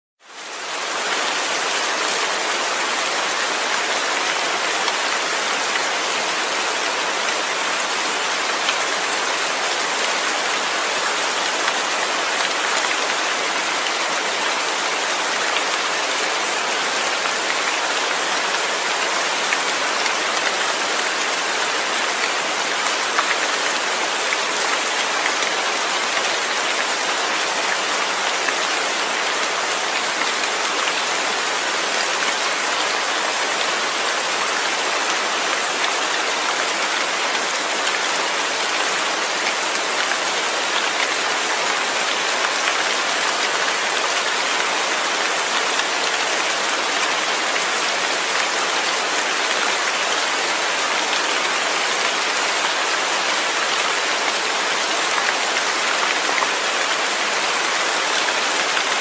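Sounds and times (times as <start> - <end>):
rain falling steadily: 0.2 - 59.0.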